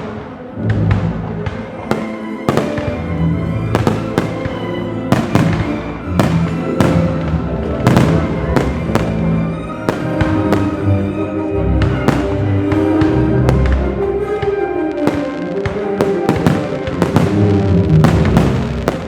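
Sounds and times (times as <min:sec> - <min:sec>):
music playing: 0:00.0 - 0:19.0.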